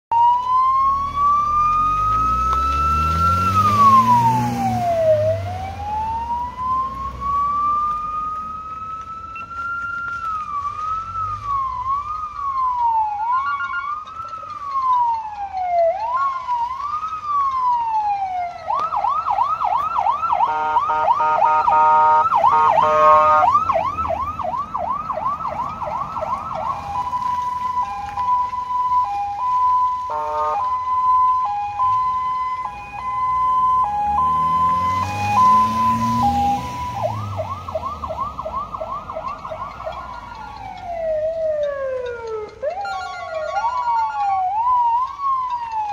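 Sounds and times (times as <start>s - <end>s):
electronic siren wailing and yelping: 0.1s - 9.6s, 10.2s - 45.9s.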